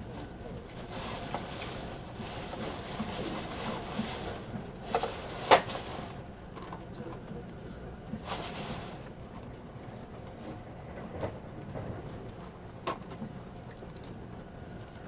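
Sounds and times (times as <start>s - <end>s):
train cabin running rumble: 0.0s - 15.0s.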